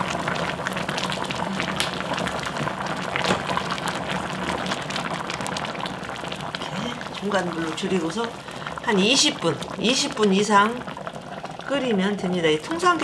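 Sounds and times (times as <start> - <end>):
broth bubbling at a rolling boil: 0.0 - 13.0.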